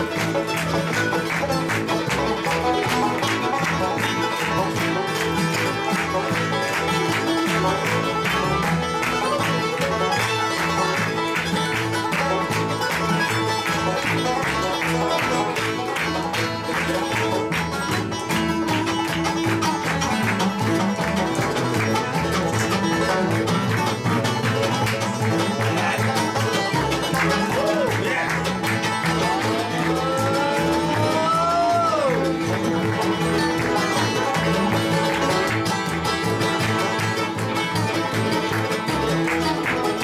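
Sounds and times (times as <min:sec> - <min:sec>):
bluegrass band playing: 0:00.0 - 0:40.0.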